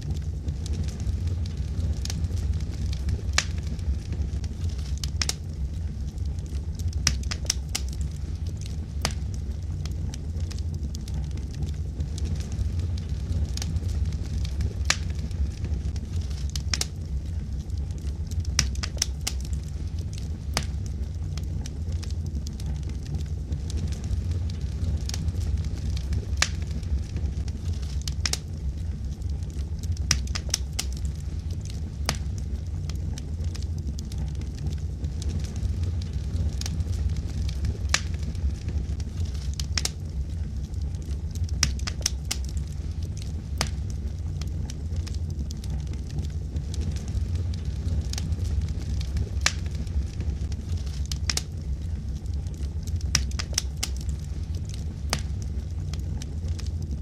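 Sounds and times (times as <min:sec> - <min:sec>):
fire flames rumbling: 0:00.0 - 0:57.0
logs crackling and popping: 0:00.0 - 0:57.0.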